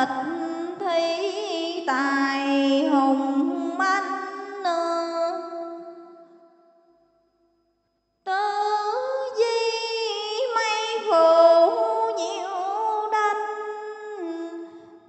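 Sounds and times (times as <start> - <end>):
woman chanting: 0.0 - 6.1, 8.3 - 14.8.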